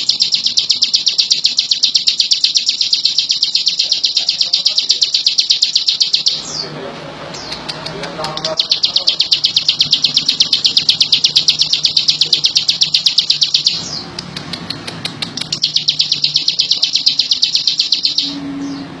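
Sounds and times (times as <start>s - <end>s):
bird singing fast trill: 0.0s - 6.6s, 8.4s - 14.1s, 15.2s - 18.9s.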